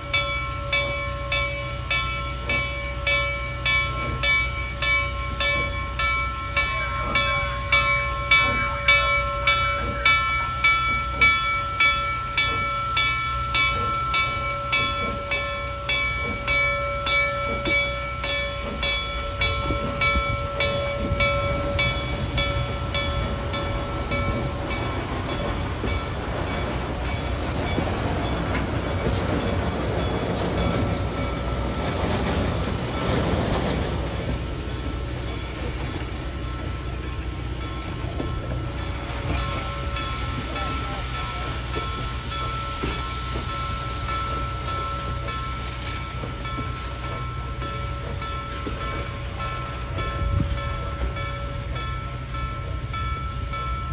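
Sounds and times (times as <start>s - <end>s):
rumble of rolling train: 0.0s - 53.9s
steam locomotive chuffing: 0.0s - 53.9s.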